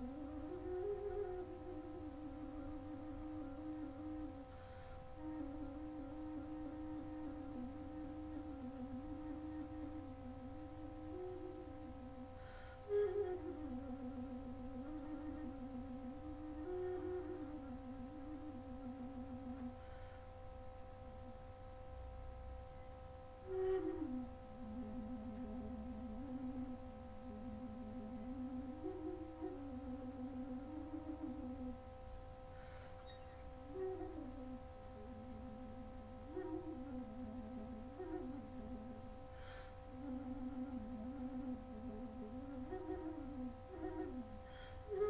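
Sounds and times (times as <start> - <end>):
flute trilling: 0.0 - 20.1, 22.8 - 31.9, 32.6 - 45.0
steady held tones: 0.0 - 45.0.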